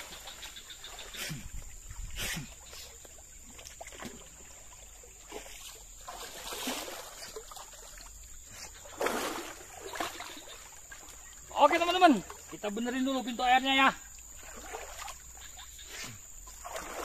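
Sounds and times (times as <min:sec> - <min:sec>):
person wading through water: 0:00.0 - 0:17.0.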